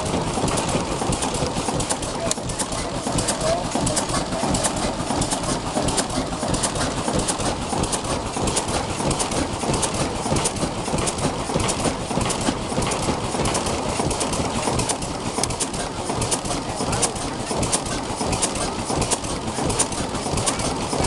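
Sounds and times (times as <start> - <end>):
boat diesel engine clattering: 0.0 - 21.0.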